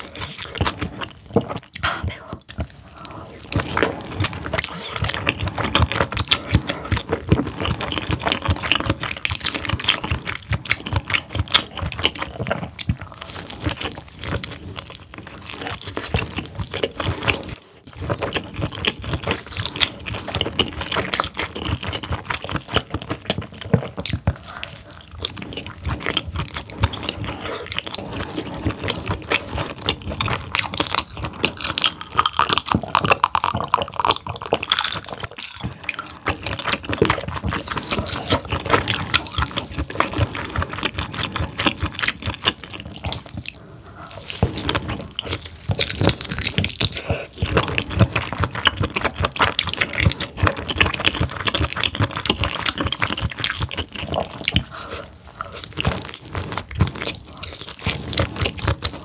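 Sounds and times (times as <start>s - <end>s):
gulping a drink: 0.0s - 13.3s, 18.4s - 59.0s
wet chewing: 0.0s - 59.0s.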